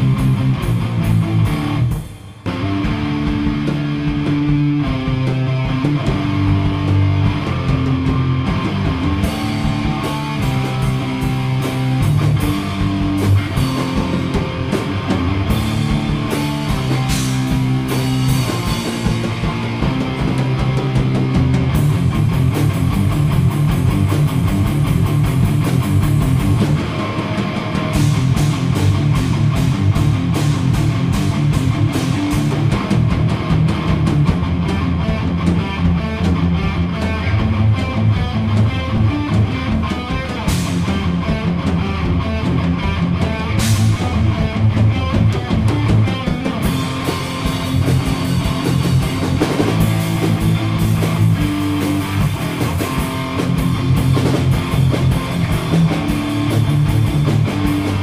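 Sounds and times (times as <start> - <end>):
bass: 0.0 - 58.0
distorted electric guitar riff: 0.0 - 58.0
drum kit with cymbals: 0.0 - 58.0.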